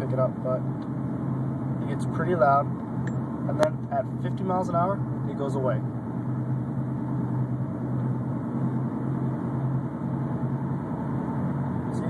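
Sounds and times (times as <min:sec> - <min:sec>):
low pulsing hum from car: 0:00.0 - 0:12.0
road noise: 0:00.0 - 0:12.0.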